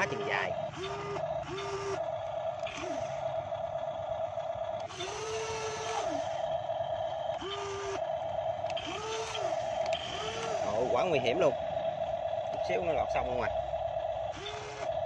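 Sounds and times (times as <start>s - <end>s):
arm motors whining: 0.0s - 15.0s
track drive motor whine: 0.0s - 15.0s.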